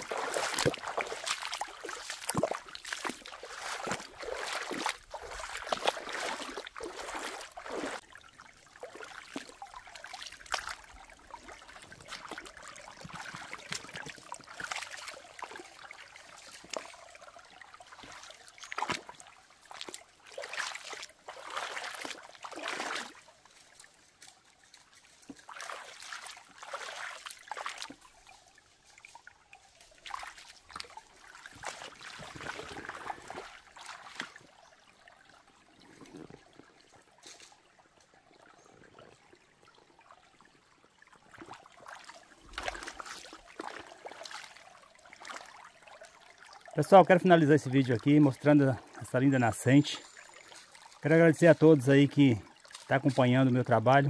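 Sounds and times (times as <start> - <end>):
stream trickling over pebbles: 0.0 - 54.0.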